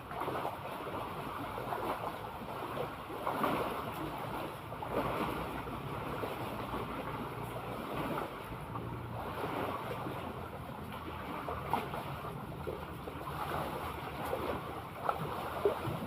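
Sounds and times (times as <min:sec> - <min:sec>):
sea water washing and splashing: 0:00.0 - 0:16.0.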